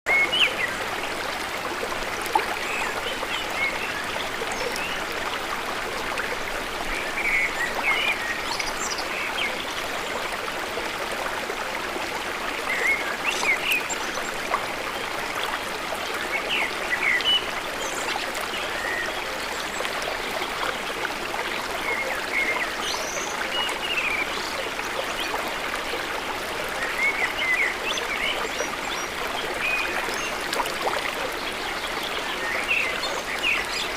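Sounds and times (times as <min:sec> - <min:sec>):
flowing water: 0:00.1 - 0:33.9.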